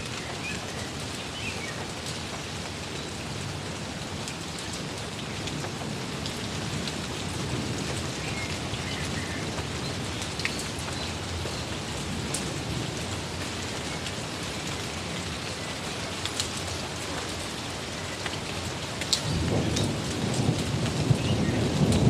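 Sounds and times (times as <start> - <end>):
raindrops ticking: 0.0 - 22.0
steady rain: 0.0 - 22.0.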